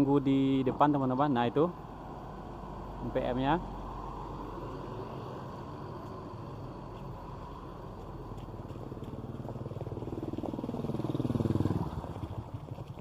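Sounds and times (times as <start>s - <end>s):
bus engine passing by: 0.0s - 12.7s.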